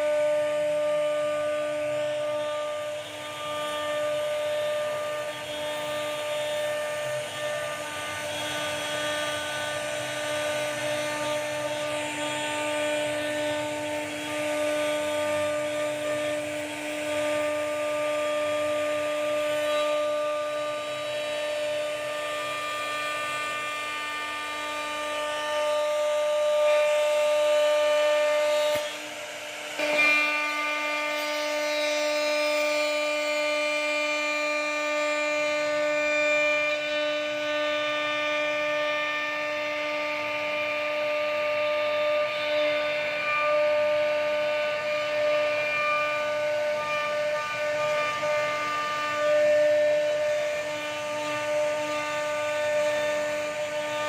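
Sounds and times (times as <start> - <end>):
router spindle whining: 0.0 - 54.0.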